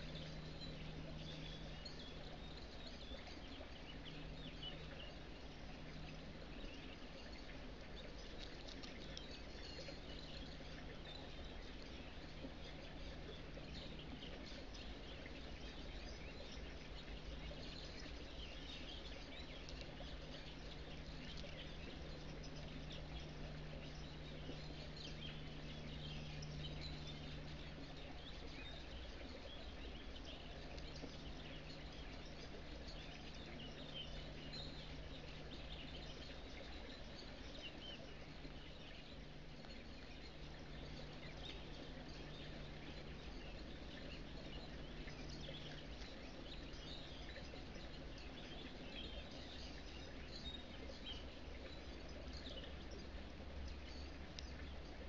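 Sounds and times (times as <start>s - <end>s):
low hum: 0.0s - 55.0s
small birds chirping: 0.0s - 55.0s.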